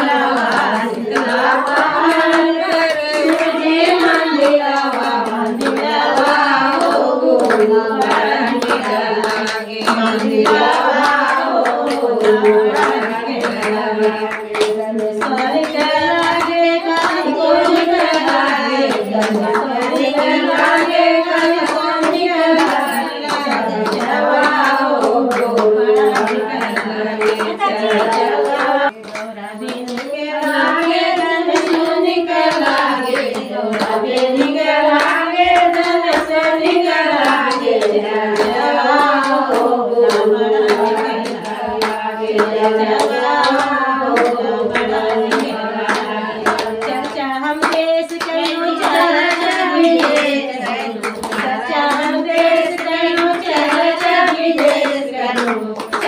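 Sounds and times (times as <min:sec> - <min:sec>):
group clapping in time: 0:00.0 - 0:56.0
woman singing devotional song: 0:00.0 - 0:56.0.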